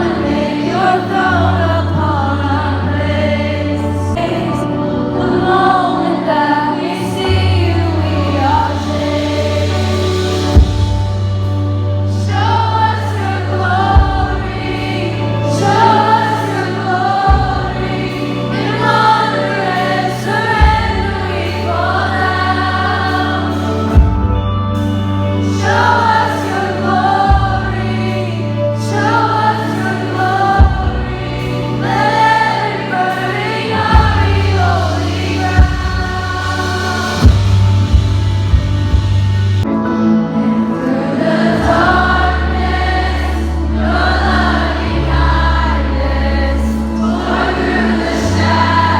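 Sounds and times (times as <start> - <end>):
voices singing: 0.0 - 39.7, 40.4 - 48.9
sustained bass notes: 0.0 - 48.9.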